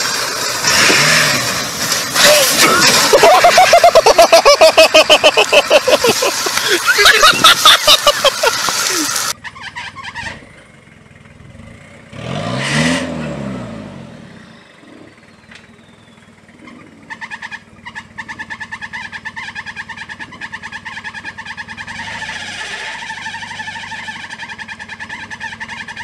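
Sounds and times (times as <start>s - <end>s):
truck engine revving: 0.0s - 10.6s, 11.3s - 26.0s
off-road vehicle engine labouring: 0.0s - 26.0s.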